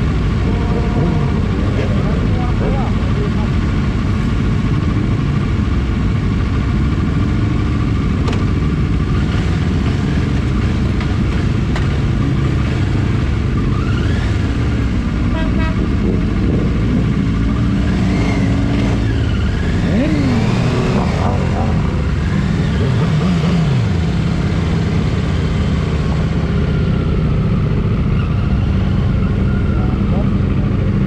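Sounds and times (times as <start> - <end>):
motorcycle engines rumbling: 0.0 - 31.0
motorcycles revving: 0.0 - 31.0.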